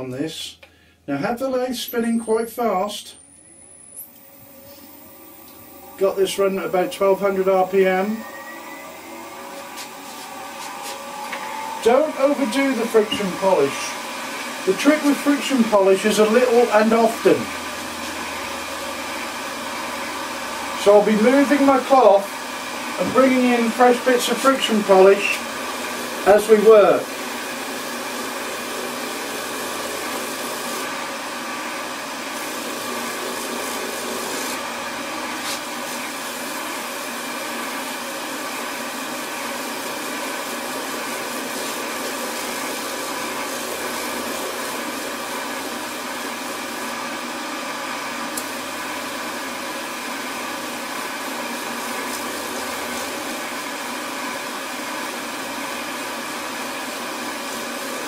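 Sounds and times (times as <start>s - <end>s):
lathe motor whirring: 3.3s - 58.0s.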